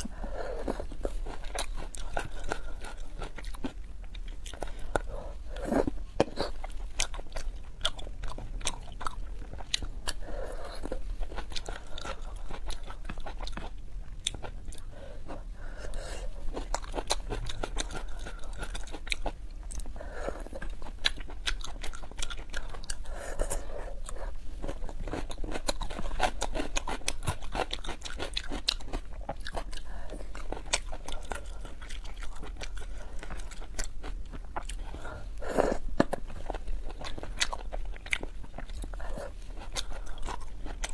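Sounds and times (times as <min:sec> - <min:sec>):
wet chewing and slurping noodles: 0:00.0 - 0:40.9.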